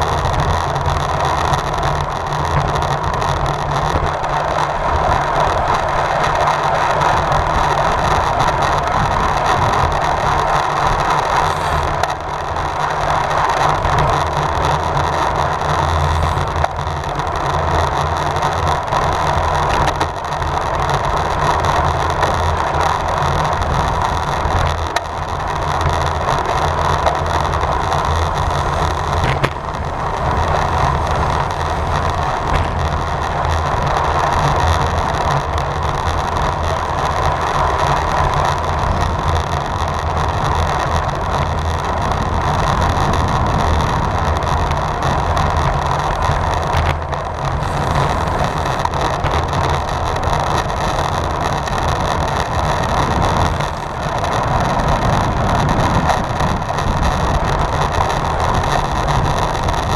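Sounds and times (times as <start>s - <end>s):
tyres humming on road: 0.0s - 59.9s
wind rushing on microphone: 0.0s - 59.9s.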